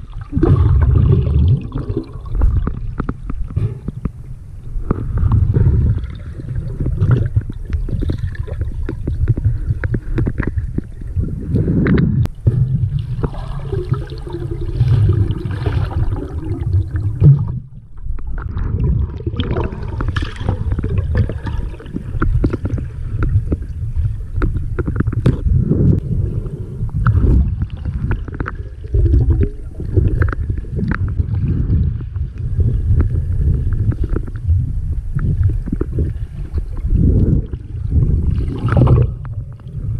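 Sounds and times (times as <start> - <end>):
muffled underwater rumble: 0.0 - 39.9
scattered underwater clicks: 1.8 - 12.4, 17.4 - 26.1, 26.9 - 39.9.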